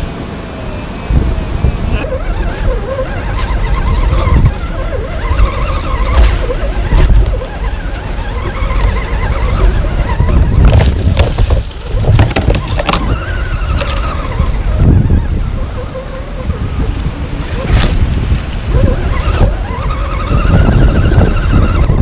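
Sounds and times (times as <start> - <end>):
wind rumbling on microphone: 0.0 - 22.0
electric motor and gears whining: 0.7 - 22.0.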